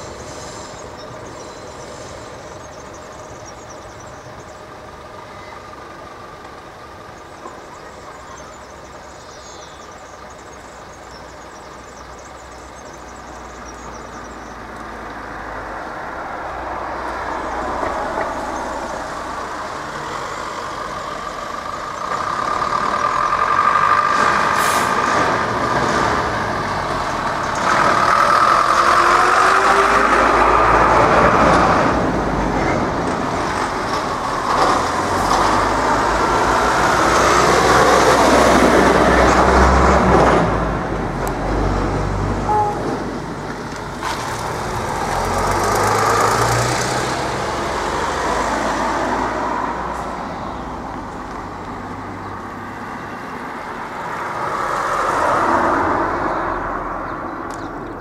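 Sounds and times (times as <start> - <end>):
bus engine rumble: 0.0 - 58.0
car passing: 0.0 - 58.0
lorry passing: 10.0 - 57.6.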